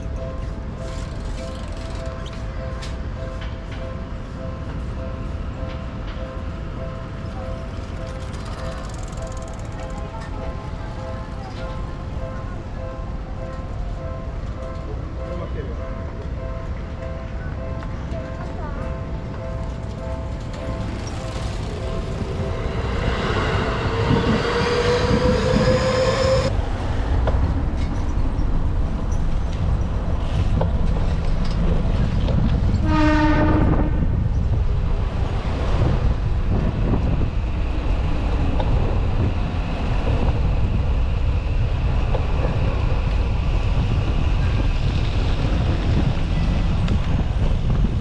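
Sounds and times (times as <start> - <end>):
train going by: 0.0 - 48.0
wind and road noise rumble: 0.0 - 48.0.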